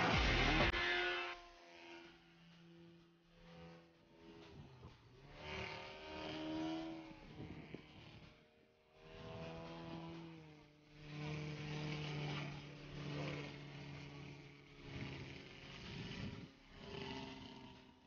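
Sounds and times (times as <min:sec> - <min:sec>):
model plane engine drone: 0:00.0 - 0:18.0.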